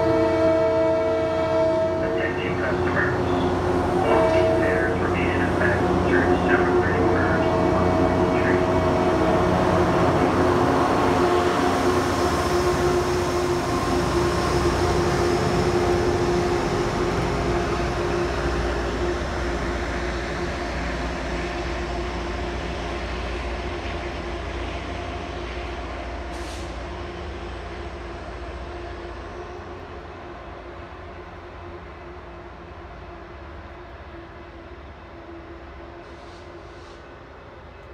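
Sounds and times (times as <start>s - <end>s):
diesel train engine hum: 0.0s - 37.9s
wheel and rail rumble: 0.0s - 37.9s.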